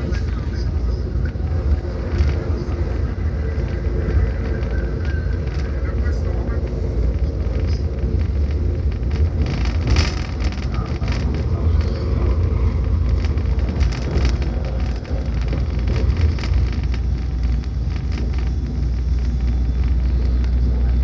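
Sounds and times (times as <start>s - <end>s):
train rumbling with clicks and rattles: 0.0s - 21.0s.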